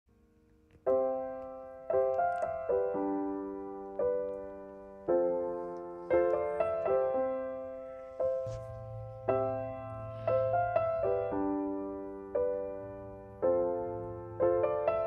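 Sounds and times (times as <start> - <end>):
slow piano chords: 0.1 - 15.0.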